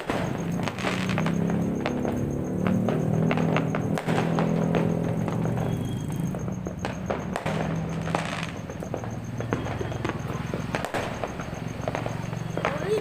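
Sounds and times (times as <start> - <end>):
fireworks popping and cracking: 0.0 - 13.0.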